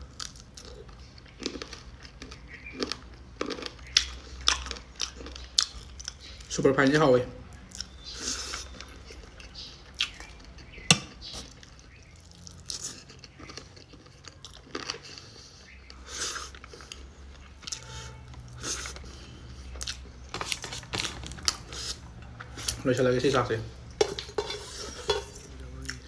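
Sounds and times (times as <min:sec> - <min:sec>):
chewing and mouth sounds: 0:00.0 - 0:06.5, 0:07.5 - 0:22.8, 0:24.6 - 0:26.0.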